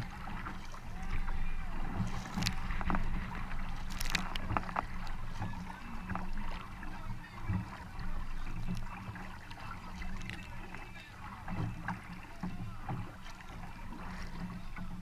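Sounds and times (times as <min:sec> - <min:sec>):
paddle splashing through water: 0:00.0 - 0:15.0.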